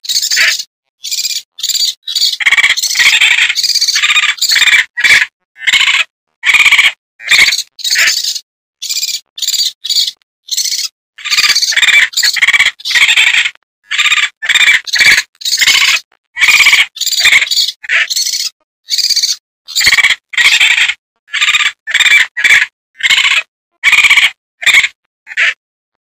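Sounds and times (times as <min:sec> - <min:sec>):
raccoon high-pitched pulsed calls: 0:00.1 - 0:25.6.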